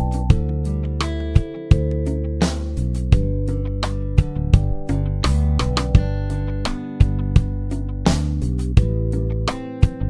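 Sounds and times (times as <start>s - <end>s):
guitar background music: 0.0s - 10.0s.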